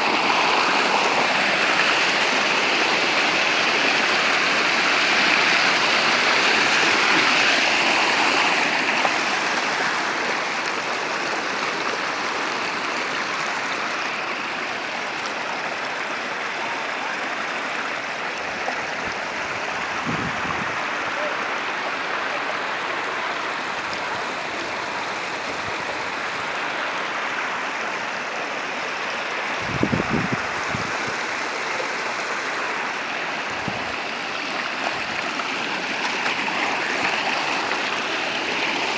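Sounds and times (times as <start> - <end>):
water flowing steadily: 0.0 - 38.9.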